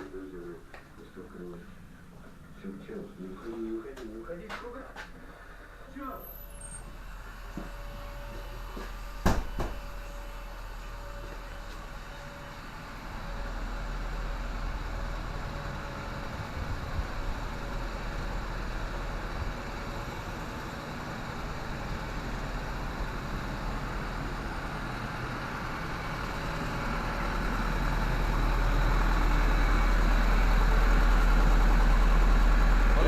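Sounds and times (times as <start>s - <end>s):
engine idling: 5.1s - 33.0s.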